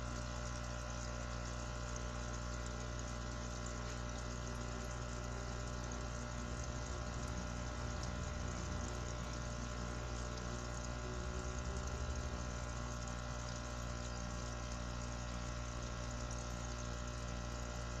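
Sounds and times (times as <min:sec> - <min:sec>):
aquarium filter pump humming: 0:00.0 - 0:18.0.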